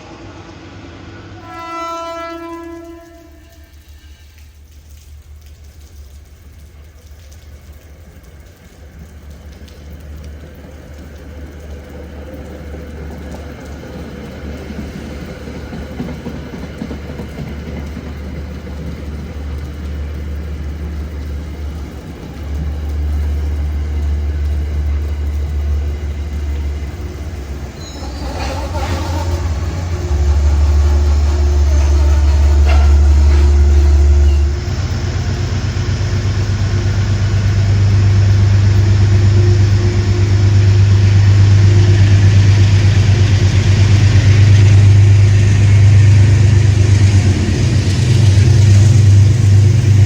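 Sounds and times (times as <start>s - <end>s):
train approaching rumble: 0.0s - 50.0s.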